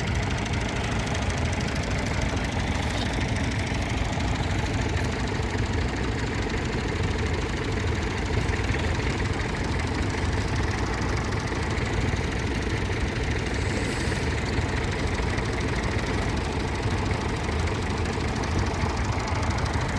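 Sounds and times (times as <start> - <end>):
tractor engine idling: 0.0 - 19.9.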